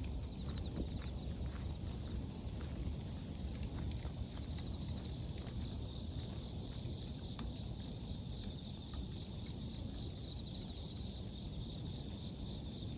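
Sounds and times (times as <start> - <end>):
bonfire crackling and popping: 0.0 - 12.9
crickets trilling: 0.0 - 12.9.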